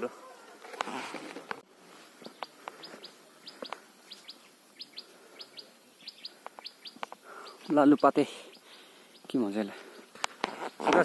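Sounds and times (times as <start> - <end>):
small bird chirping: 2.0 - 11.0.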